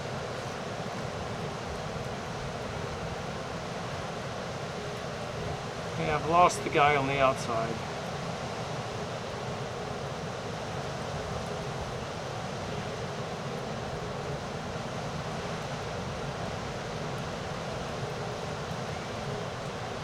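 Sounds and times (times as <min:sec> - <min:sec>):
ocean surf: 0:00.0 - 0:20.0
wind: 0:00.0 - 0:20.0.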